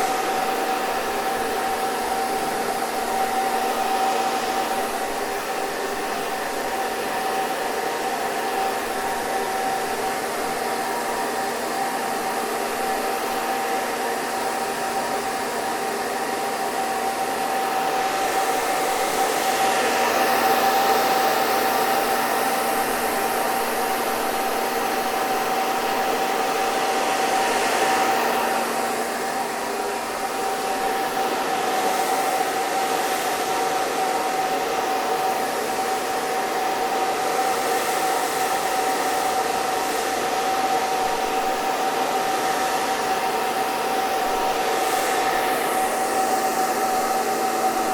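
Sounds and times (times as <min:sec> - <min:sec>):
hair dryer blowing air: 0:00.0 - 0:47.9
hair dryer motor whine: 0:00.0 - 0:47.9.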